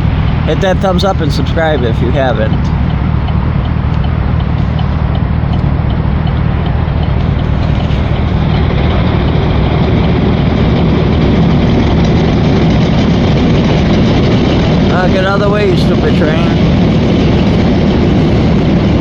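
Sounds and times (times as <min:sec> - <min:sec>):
heavy engine rumbling: 0:00.0 - 0:19.0.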